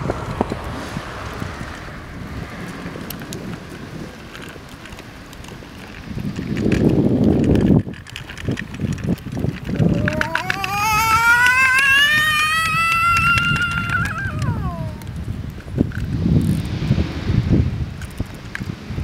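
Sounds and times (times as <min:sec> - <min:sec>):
bicycle clicking and rattling: 0:00.0 - 0:16.8, 0:18.0 - 0:18.8
wind buffeting microphone: 0:00.0 - 0:19.0.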